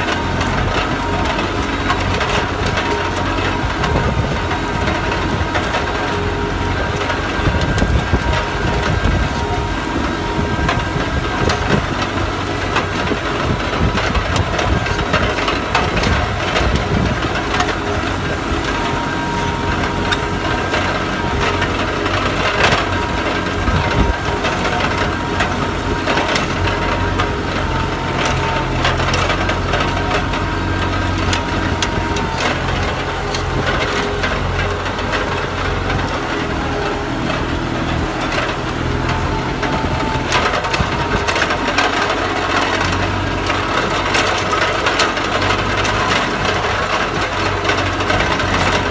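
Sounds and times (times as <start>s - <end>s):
tractor engine hum: 0.0s - 48.9s.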